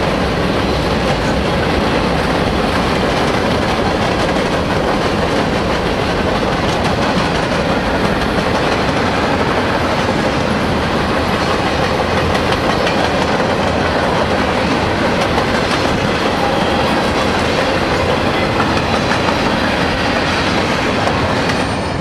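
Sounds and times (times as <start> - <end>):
freight train wheels rattling: 0.0 - 22.0.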